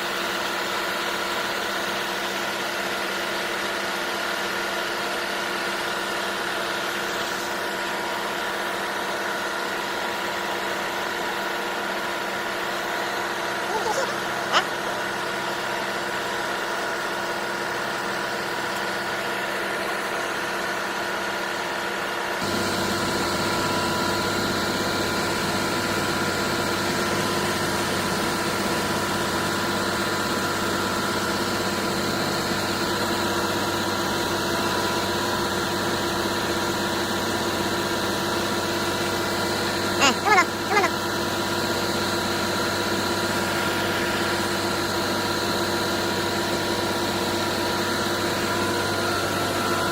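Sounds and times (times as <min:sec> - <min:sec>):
diesel engine running: 0:06.5 - 0:49.9.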